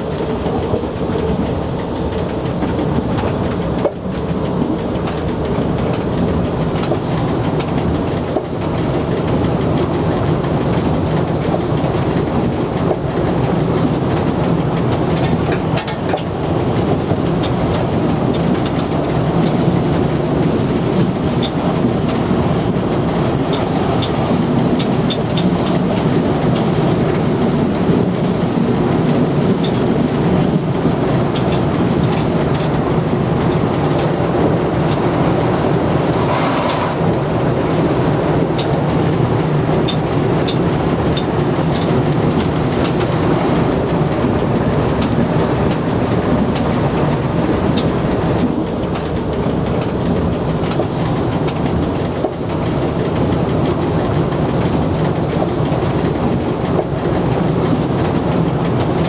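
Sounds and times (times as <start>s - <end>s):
clicks and rattles: 0.0s - 36.3s, 37.0s - 59.0s
train wheels rumbling on rails: 0.0s - 59.0s.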